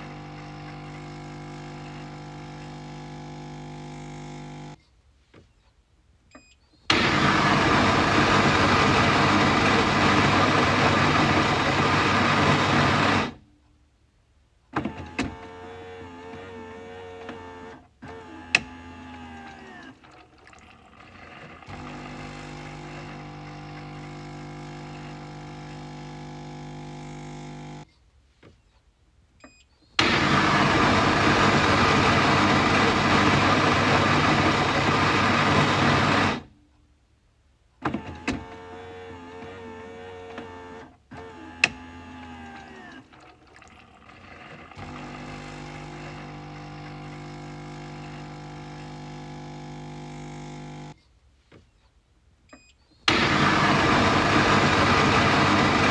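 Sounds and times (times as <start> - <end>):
coffee machine motor hum: 0.0 - 4.8, 6.9 - 13.4, 15.3 - 27.8, 30.0 - 36.5, 38.6 - 51.0, 53.1 - 55.9.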